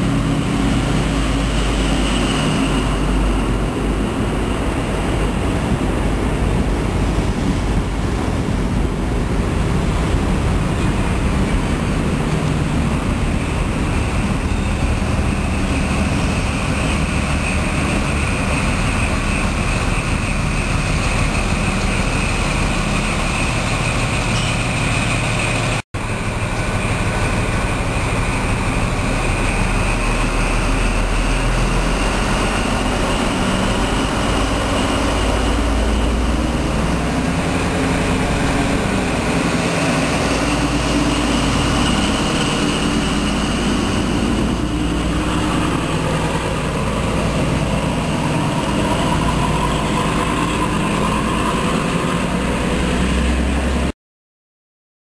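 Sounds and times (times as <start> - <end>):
train engine rumble with whine: 0.0 - 53.9.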